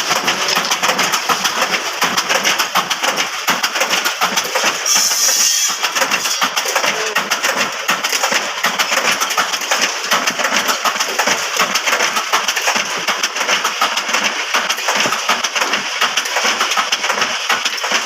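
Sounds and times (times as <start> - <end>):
rapid clatter of machine working bamboo: 0.0 - 18.0.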